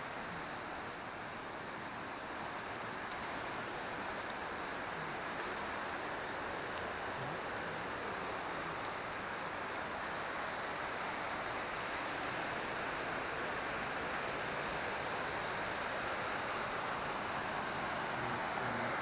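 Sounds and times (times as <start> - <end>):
stream and waterfall rushing: 0.0 - 19.0.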